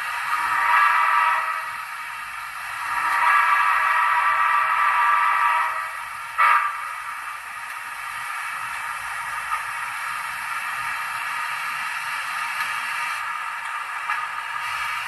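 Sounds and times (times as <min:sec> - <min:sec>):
steady steam hiss: 0:00.0 - 0:15.0.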